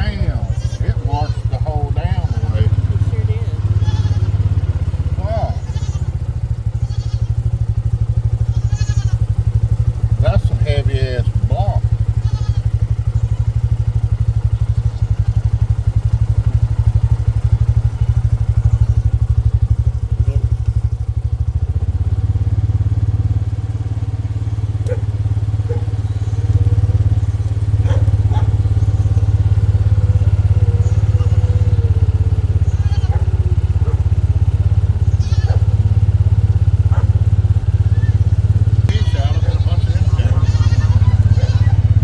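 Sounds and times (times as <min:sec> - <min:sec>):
engine running with low pulsing: 0:00.0 - 0:42.0.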